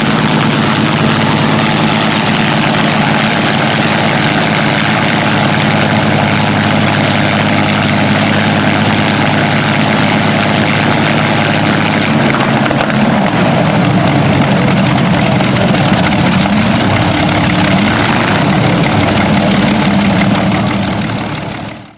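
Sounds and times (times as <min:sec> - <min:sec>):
aero engines droning: 0:00.0 - 0:21.9.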